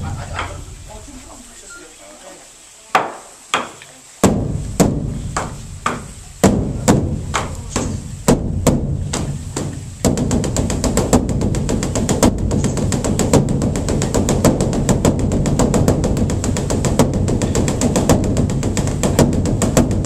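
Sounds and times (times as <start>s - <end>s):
large drum beaten with sticks: 3.6s - 20.0s.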